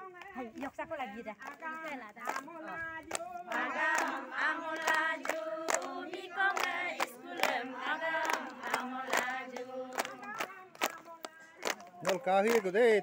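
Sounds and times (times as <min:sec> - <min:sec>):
women singing together: 0:00.7 - 0:11.6
hand-clapping: 0:01.4 - 0:13.0.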